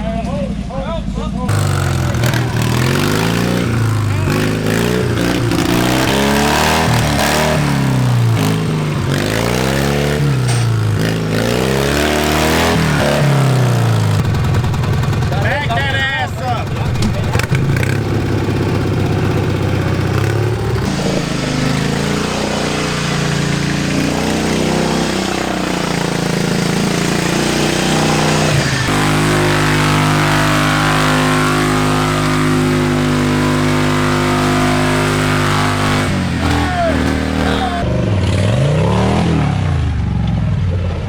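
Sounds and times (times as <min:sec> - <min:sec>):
mower engines revving hard: 0:01.5 - 0:39.8.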